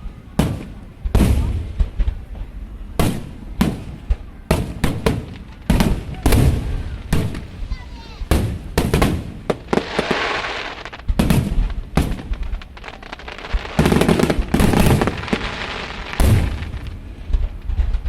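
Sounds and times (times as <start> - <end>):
fireworks bangs and booms: 0.0 - 18.0
fireworks crackle: 0.2 - 18.0.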